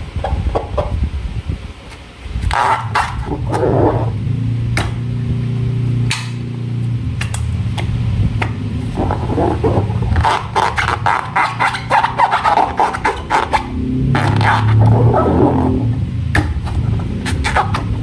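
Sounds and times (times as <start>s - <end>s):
low buzzing rubbery tone: 0.0s - 18.0s.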